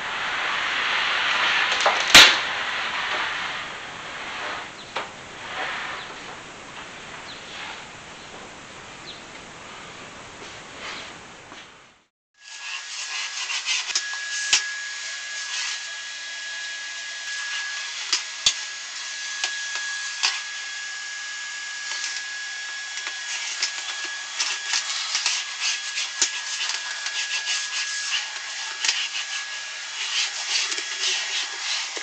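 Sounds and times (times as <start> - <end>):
mop rubbing floor: 0.0 - 8.6, 9.6 - 11.8, 12.4 - 32.0.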